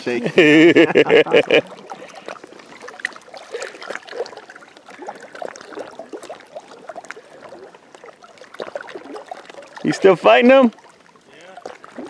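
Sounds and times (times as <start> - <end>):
river water lapping and splashing: 0.0 - 12.0.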